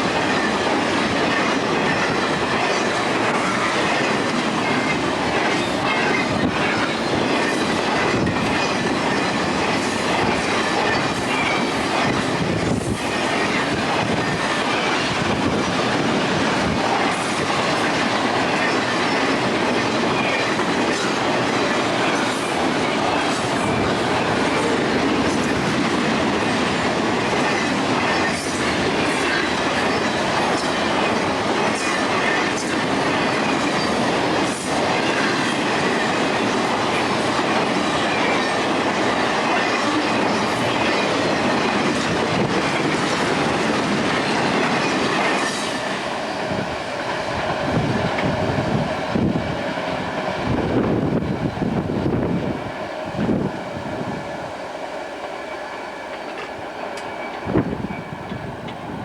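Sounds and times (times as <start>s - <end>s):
train cars rolling past: 0.0s - 59.0s.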